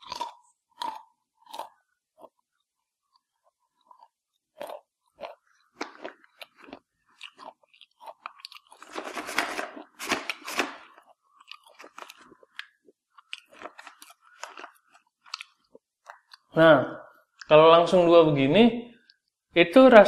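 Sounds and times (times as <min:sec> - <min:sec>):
person chewing crunchy chips: 0:00.0 - 0:16.5.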